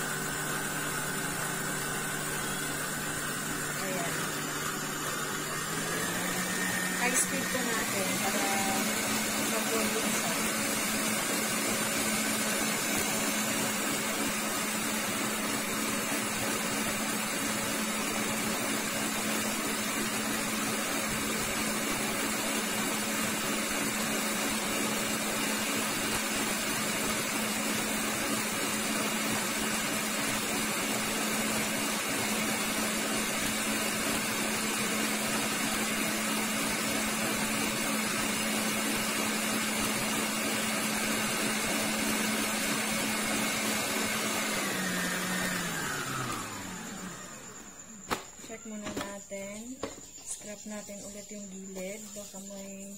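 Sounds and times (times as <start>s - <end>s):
stand mixer whisking: 0.0s - 47.5s.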